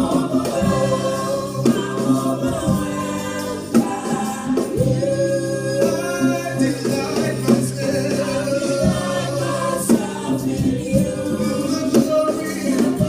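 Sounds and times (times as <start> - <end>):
band playing: 0.0 - 13.0
choir singing: 0.0 - 13.0
steady drum beat: 0.0 - 13.0.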